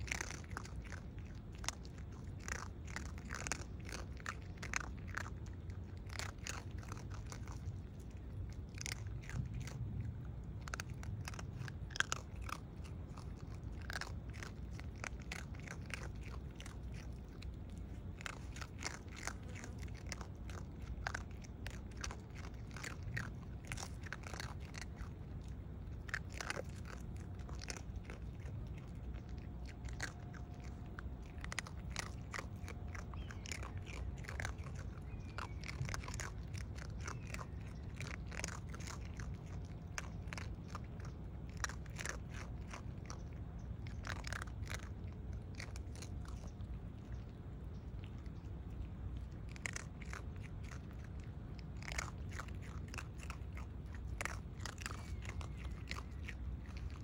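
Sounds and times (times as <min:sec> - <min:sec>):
animals crunching dry kibble: 0:00.0 - 0:57.0
low steady rumble: 0:00.0 - 0:57.0.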